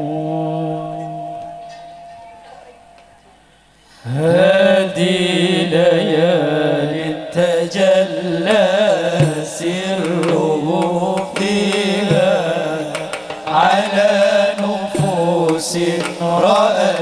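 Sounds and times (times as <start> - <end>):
man singing devotional song: 0.0 - 1.7, 3.9 - 17.0.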